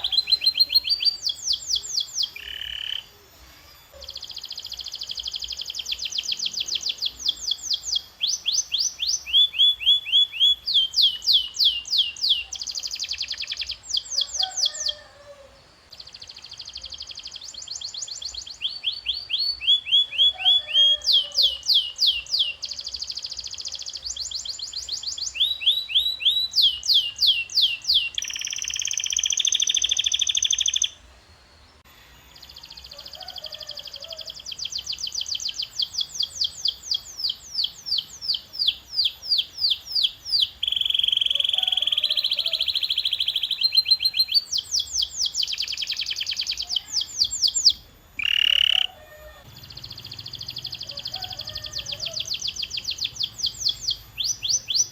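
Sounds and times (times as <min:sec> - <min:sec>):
canary singing: 0:00.0 - 0:31.0, 0:32.2 - 0:54.9.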